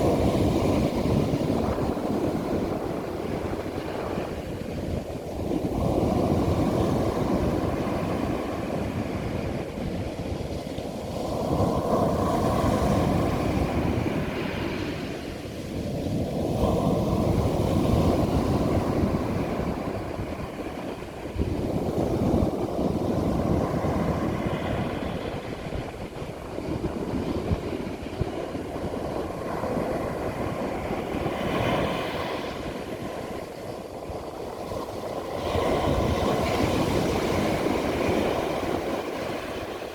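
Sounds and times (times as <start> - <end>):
ocean waves breaking on a beach: 0.0 - 39.9.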